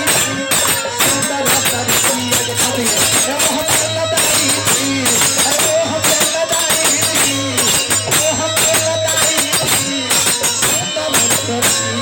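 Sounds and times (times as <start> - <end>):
harmonium melody: 0.0 - 12.0
tambourine jingle beat: 0.0 - 12.0.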